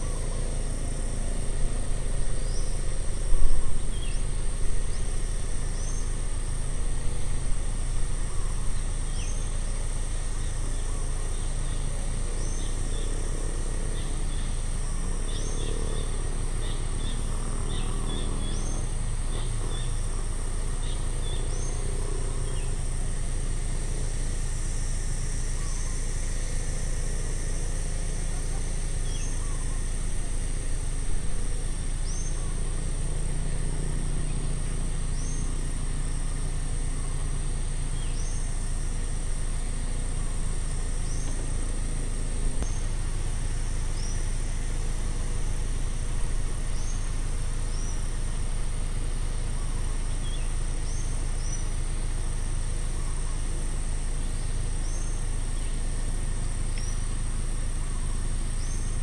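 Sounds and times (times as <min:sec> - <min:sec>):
distant road traffic rumble: 0:00.0 - 0:59.0
high insect drone: 0:00.0 - 0:59.0.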